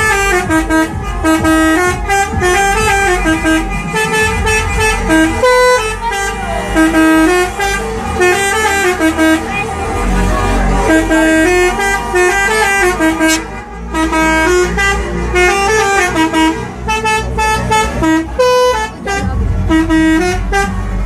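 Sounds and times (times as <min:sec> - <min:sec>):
multi-tone bus horn melody: 0:00.0 - 0:21.0
steady low rumble: 0:00.0 - 0:21.0.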